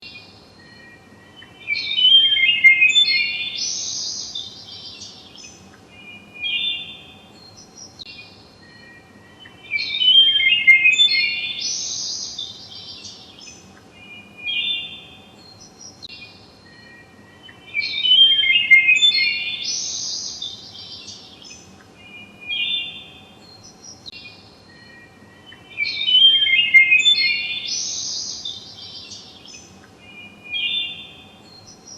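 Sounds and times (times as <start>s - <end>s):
faint steady hum: 0.0s - 31.9s
songbirds chirping and trilling: 0.0s - 31.9s.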